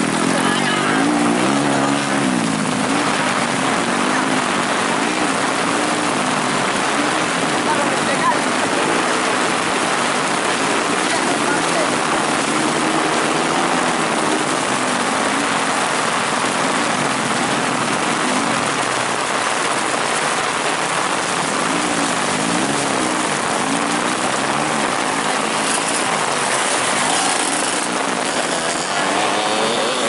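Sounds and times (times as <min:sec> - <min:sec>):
faint motorcycle engines revving: 0:00.0 - 0:30.0
heavy rain: 0:00.0 - 0:30.0.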